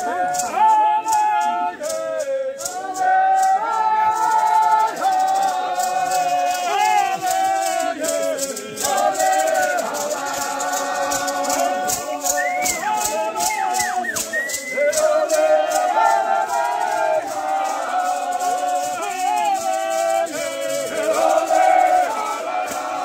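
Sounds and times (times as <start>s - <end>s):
group chanting a song: 0.0s - 23.0s
hand rattles shaking: 0.0s - 23.0s.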